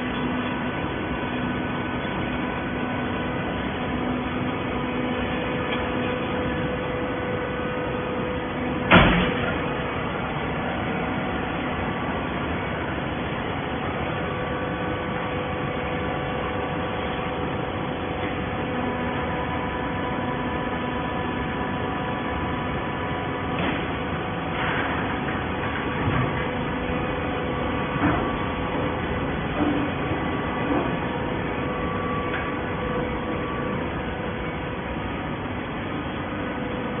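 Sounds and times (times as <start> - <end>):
hydraulic baler humming: 0.0 - 37.0.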